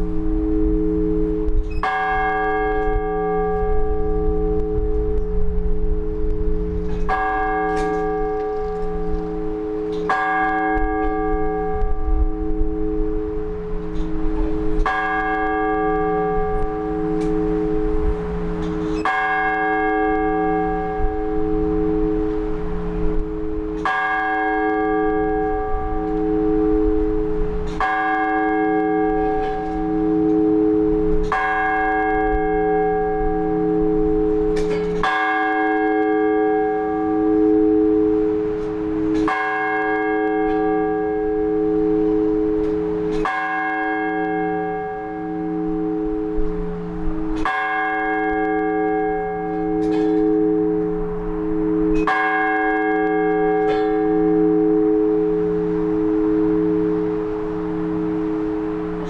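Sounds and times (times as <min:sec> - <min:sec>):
large church bell tolling: 0:00.0 - 0:59.0.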